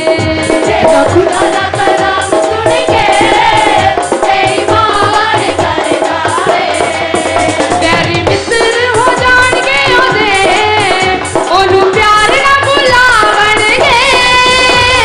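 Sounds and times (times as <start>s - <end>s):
quick percussion beat: 0.0s - 15.0s
women singing into microphones: 0.0s - 15.0s.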